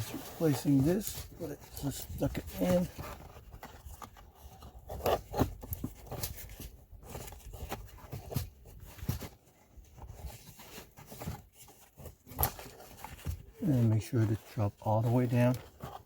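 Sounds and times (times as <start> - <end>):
filter scraping and rustling: 0.0 - 16.0.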